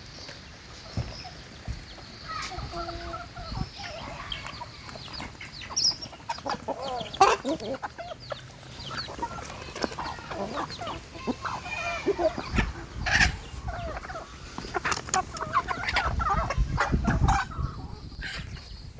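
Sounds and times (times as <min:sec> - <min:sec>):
chickens clucking and chirping: 0:00.0 - 0:18.9.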